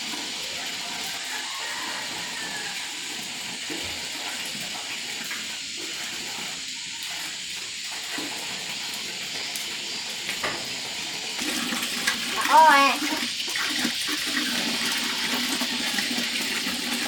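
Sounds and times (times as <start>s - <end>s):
water running: 0.0s - 17.0s.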